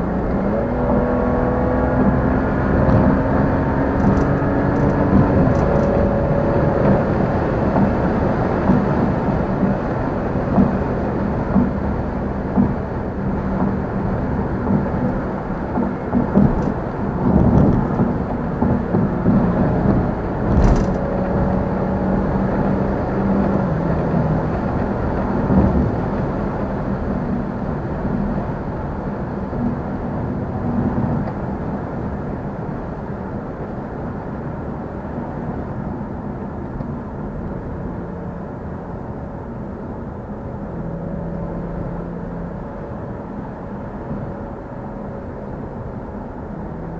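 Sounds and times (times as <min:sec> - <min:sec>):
car engine: 0:00.0 - 0:46.9
road noise: 0:00.0 - 0:46.9.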